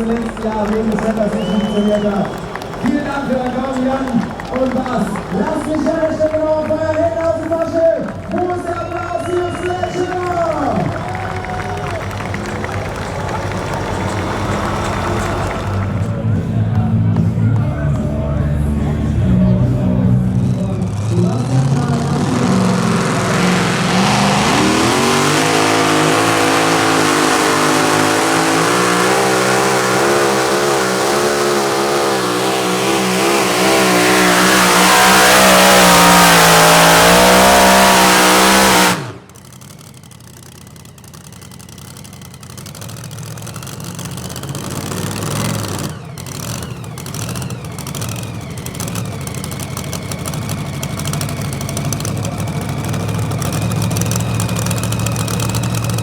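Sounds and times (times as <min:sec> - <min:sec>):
engine idling low: 0:00.0 - 0:56.0
tractor engine running under load: 0:00.0 - 0:56.0.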